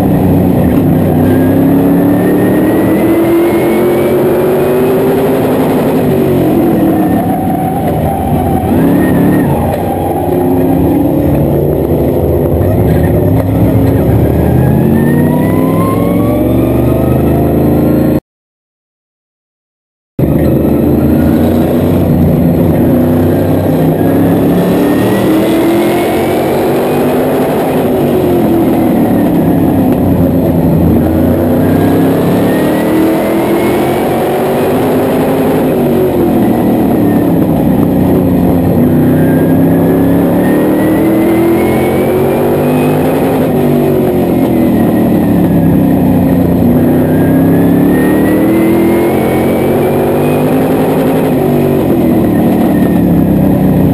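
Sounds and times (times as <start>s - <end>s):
race car engine revving: 0.0s - 18.2s, 20.2s - 53.9s.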